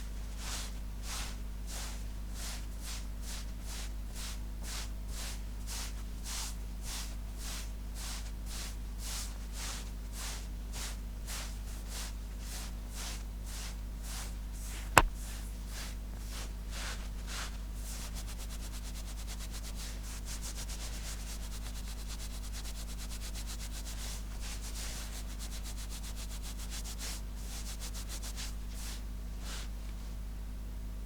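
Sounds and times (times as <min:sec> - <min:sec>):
scratching on fabric: 0:00.3 - 0:29.7.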